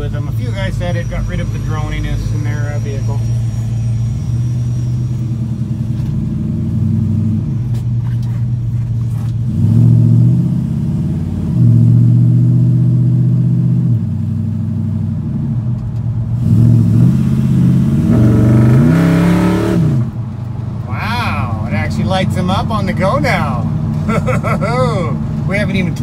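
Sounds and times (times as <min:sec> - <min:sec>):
truck engine accelerating: 0:00.0 - 0:26.0.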